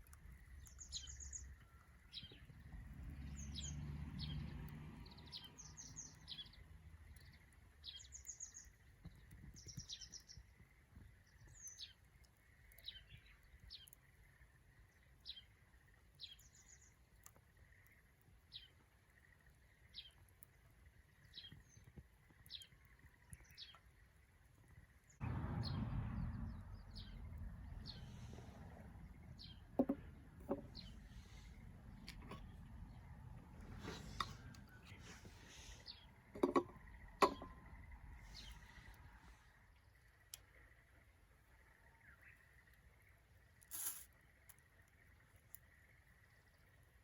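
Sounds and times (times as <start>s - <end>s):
songbird chirping: 0.0s - 47.0s.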